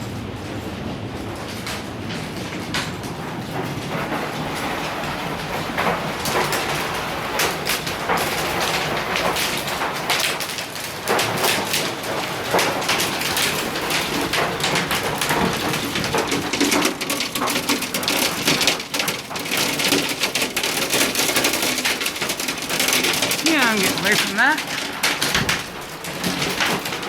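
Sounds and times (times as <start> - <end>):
heavy rain on surfaces: 0.0 - 27.0.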